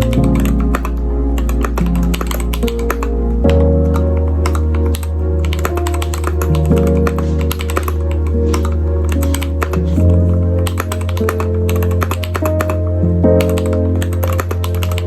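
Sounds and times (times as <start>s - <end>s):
mechanical keyboard typing: 0.0s - 3.1s, 3.9s - 12.8s, 13.4s - 15.0s
background music with bass line: 0.0s - 15.0s.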